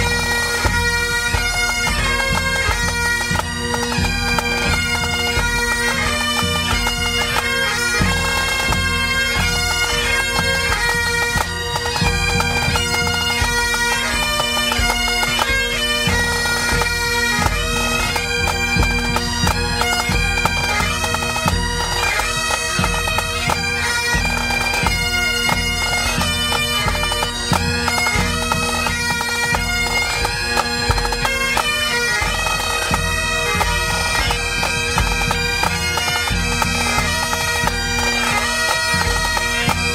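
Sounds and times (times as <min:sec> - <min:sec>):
bagpipes playing: 0:00.0 - 0:39.9
side drums beating: 0:00.0 - 0:39.9.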